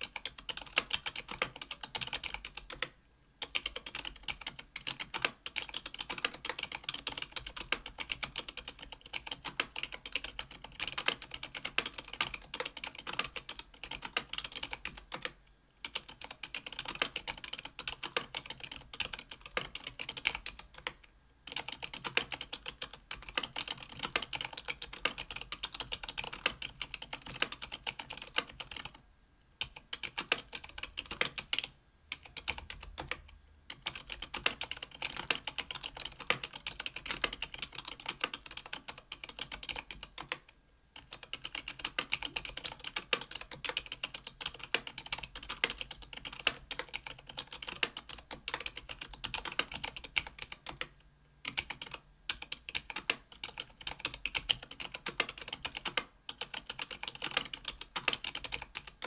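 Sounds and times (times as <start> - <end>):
mechanical keyboard typing: 0.0 - 29.0, 29.6 - 59.0.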